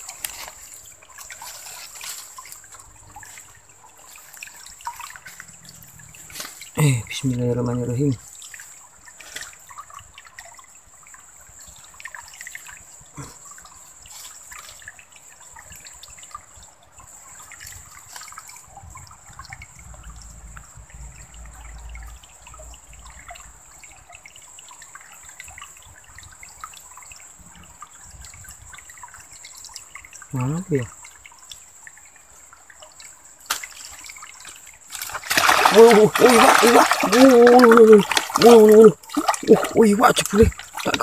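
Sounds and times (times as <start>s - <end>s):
stream babbling over stones: 0.0s - 41.0s.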